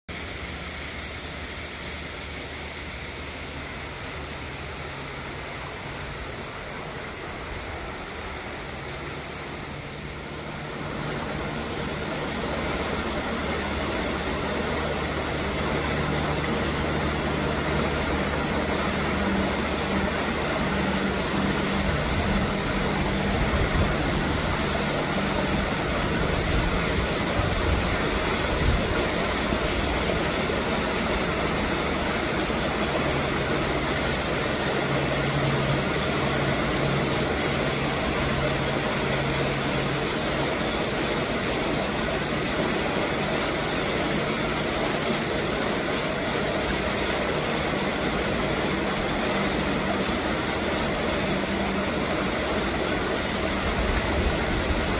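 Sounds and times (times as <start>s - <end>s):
engine drone with low hum: 0.1s - 54.9s.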